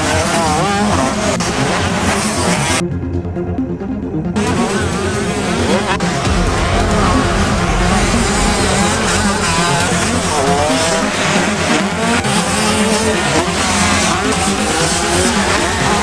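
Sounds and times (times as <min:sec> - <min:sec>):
motocross bike engines revving: 0:00.0 - 0:02.8, 0:04.4 - 0:16.0.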